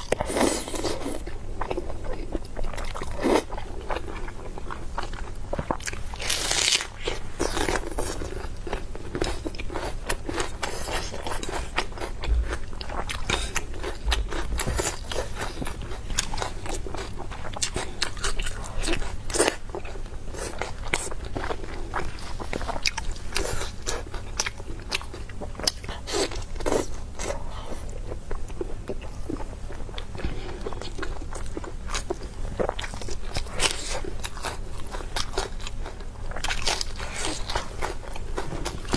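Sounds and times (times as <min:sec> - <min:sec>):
person chewing meat: 0:00.0 - 0:38.9.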